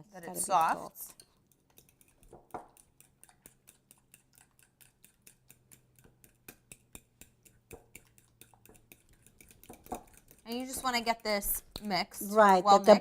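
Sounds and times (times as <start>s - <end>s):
utensil beating filling in bowl: 0.2s - 13.0s.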